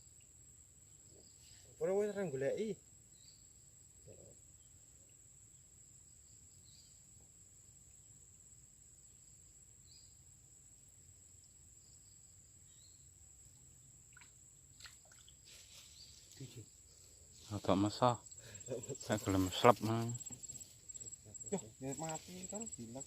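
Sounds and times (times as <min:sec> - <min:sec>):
high-pitched insect trill: 0:00.0 - 0:23.0.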